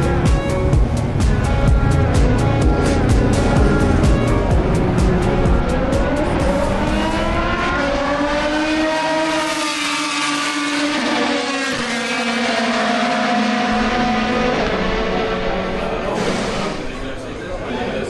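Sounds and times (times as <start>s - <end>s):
racing car engine accelerating: 0.0s - 17.2s.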